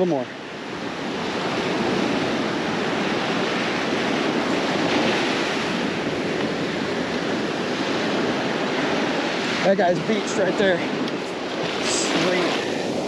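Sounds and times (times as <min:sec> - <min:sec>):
surf washing onto sand: 0:00.0 - 0:13.0.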